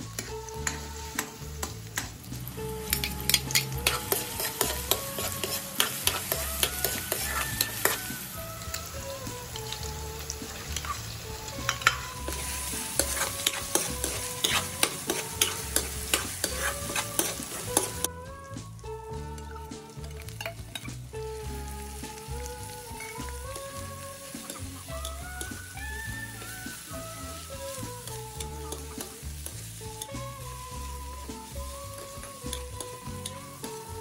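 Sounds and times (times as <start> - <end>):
metal spatula scraping a pan: 0.0 - 18.1, 20.4 - 34.0
light background music: 0.0 - 34.0
meat and onion sizzling in a wok: 0.0 - 34.0.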